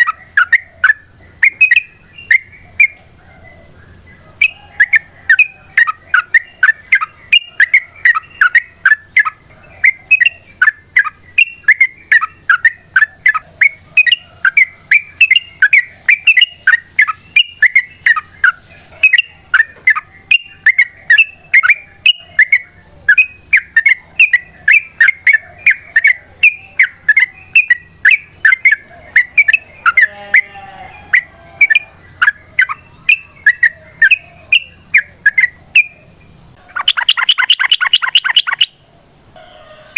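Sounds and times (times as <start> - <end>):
bird chirping rapidly: 0.0 - 3.0, 4.4 - 30.6, 31.2 - 38.8.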